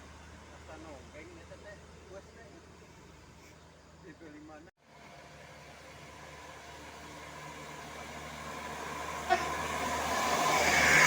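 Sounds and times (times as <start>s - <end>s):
large bus engine: 0.0s - 4.0s, 4.8s - 11.0s.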